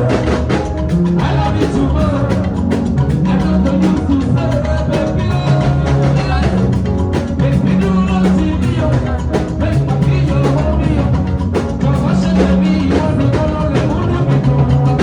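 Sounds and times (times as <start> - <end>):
loud music with drums and bass: 0.0 - 15.0.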